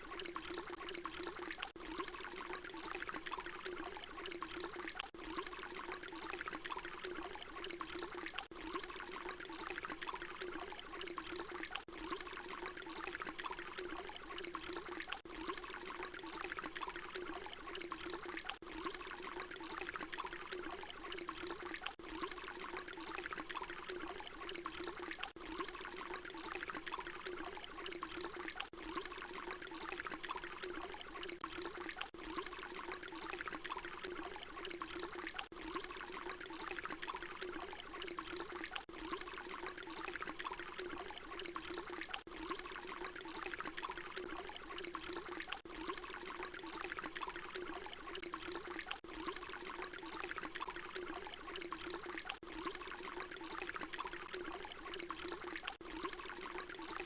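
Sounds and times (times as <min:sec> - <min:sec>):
water pouring: 0:00.0 - 0:57.0.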